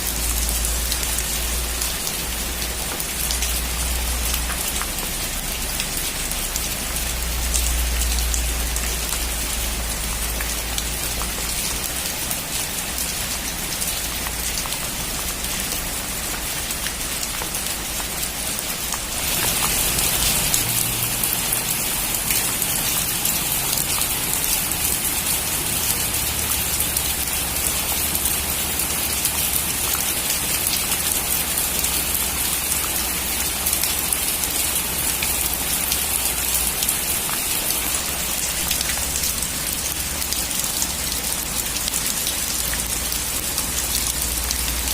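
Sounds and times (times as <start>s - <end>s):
heavy rain on a metal roof: 0.0s - 44.9s.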